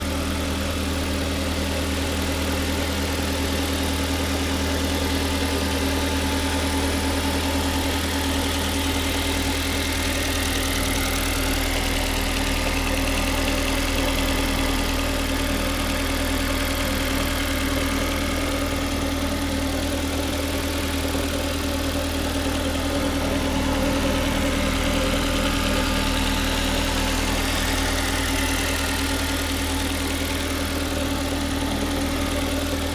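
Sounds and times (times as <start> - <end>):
car engine idling: 0.0 - 32.9
engine knocking: 0.0 - 32.9.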